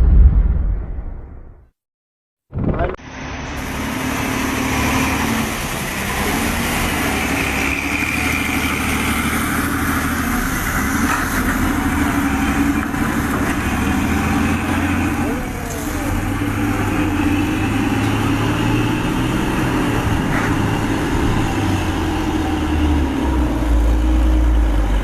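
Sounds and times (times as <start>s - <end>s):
outdoor background noise: 2.5s - 25.0s.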